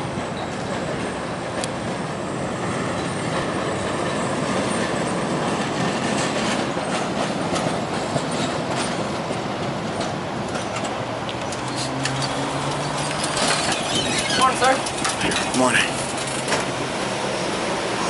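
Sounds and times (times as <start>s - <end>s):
streetcar wheels rumbling on rails: 0.0s - 18.0s.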